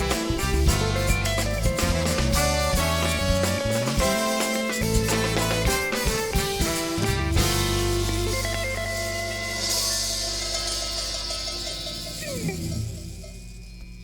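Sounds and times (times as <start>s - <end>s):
live band playing a groove: 0.0s - 13.4s
cymbals ringing: 0.0s - 14.0s.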